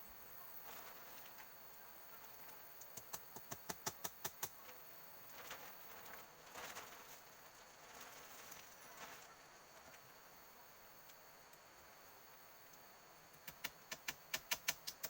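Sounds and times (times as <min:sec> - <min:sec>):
forest insects buzzing: 0:00.0 - 0:15.0.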